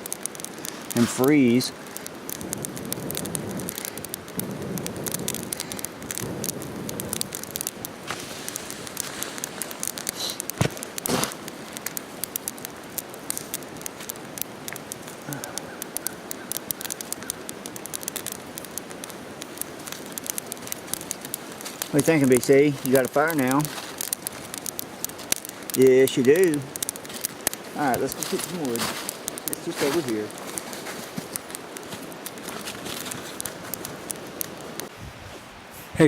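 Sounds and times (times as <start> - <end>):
campfire crackling and popping: 0.0 - 35.1.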